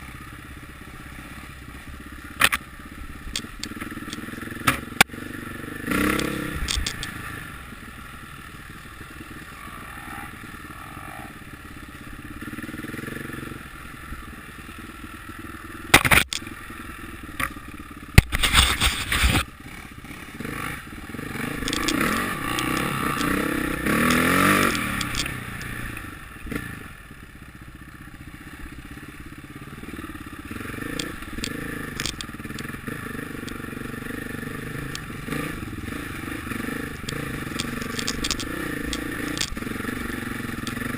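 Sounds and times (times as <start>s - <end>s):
motocross motorcycles running: 0.0s - 40.9s
motorcycle passing by: 3.8s - 15.8s, 18.7s - 40.9s.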